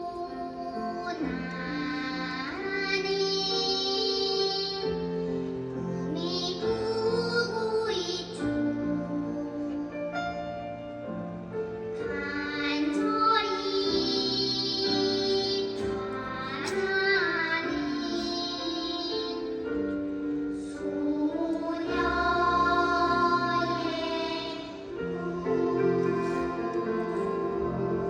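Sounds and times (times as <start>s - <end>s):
children's choir singing: 0.0s - 28.0s
musical accompaniment: 0.0s - 28.0s.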